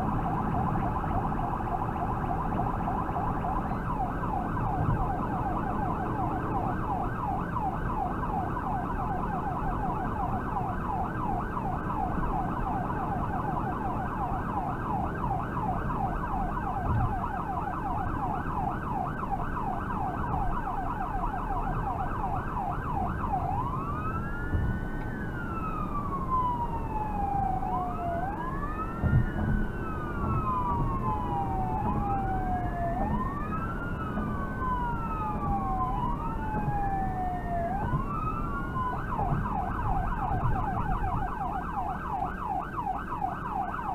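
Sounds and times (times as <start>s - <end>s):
electronic emergency siren: 0.0s - 43.9s
road noise: 0.0s - 43.9s.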